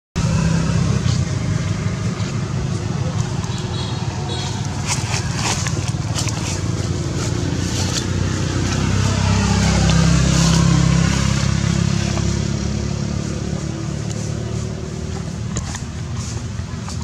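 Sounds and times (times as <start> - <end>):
vehicle engine passing by: 0.2 - 17.0.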